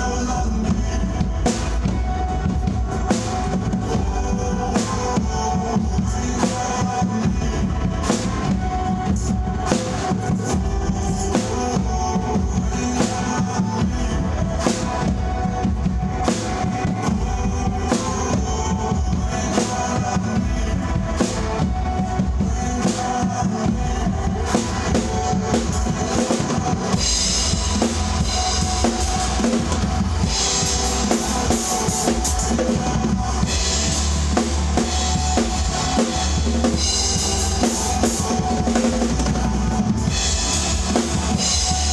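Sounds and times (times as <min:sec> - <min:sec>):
drum kit playing: 0:00.0 - 0:41.9
recorded backing track: 0:00.0 - 0:41.9.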